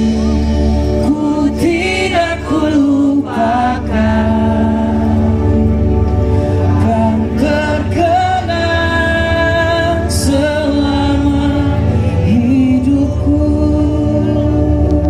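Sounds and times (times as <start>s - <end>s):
live band music: 0.0s - 15.0s
person singing long notes: 0.0s - 15.0s.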